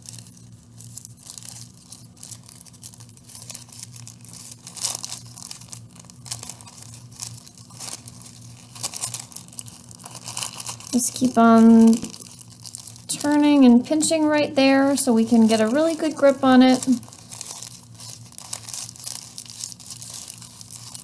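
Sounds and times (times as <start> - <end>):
tissue paper crinkling: 0.0 - 21.0.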